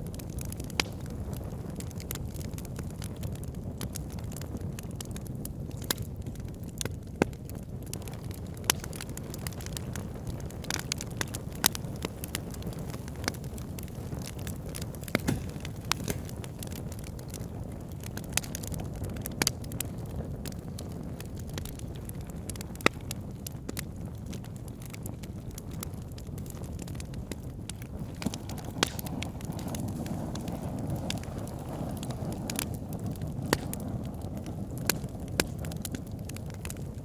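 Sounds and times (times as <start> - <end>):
fire crackles and pops: 0.0 - 37.0
low rumble of flames: 0.0 - 37.0.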